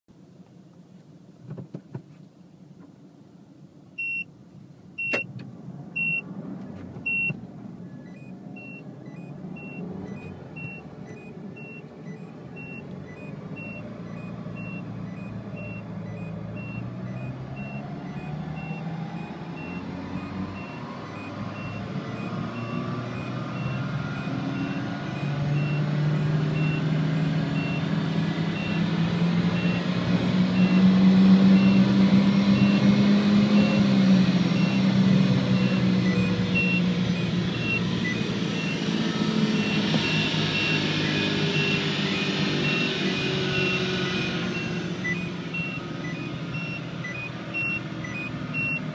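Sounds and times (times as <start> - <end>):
dashboard warning chime beeping: 4.0 - 4.3, 5.0 - 5.3, 6.0 - 6.3, 7.0 - 48.9
car engine accelerating through gears: 5.0 - 48.9.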